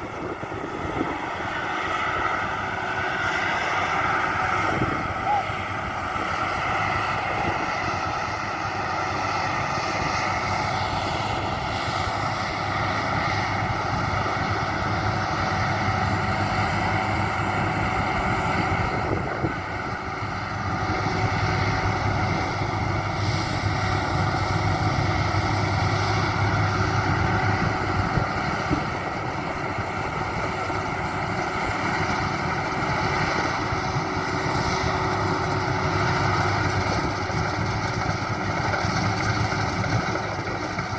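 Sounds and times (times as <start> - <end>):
combine harvester droning: 0.0 - 40.9.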